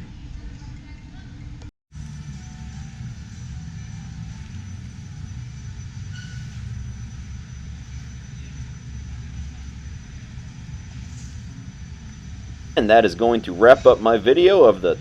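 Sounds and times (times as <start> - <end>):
low rumble of hall background noise: 0.0 - 15.0.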